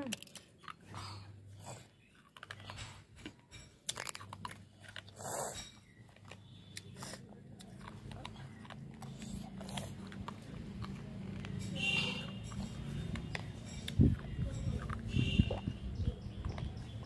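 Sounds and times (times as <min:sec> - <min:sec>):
crisp chewing crunches: 0:00.0 - 0:17.0.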